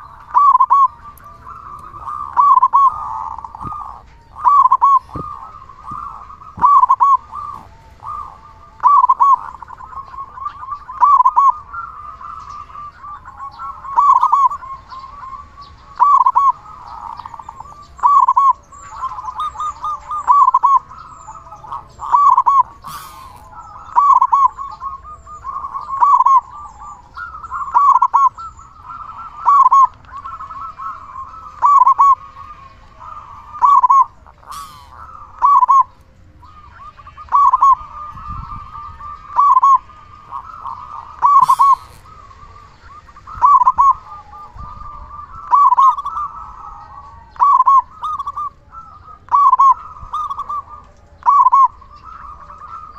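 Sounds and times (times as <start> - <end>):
dove cooing: 0.0 - 52.9
soft warbling coos: 0.0 - 52.9.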